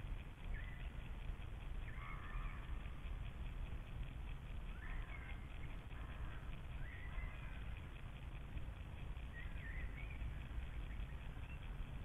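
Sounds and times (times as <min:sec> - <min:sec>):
steady low rumble: 0:00.0 - 0:12.0
faint bird calls: 0:00.2 - 0:03.4, 0:04.5 - 0:08.0, 0:09.0 - 0:11.9.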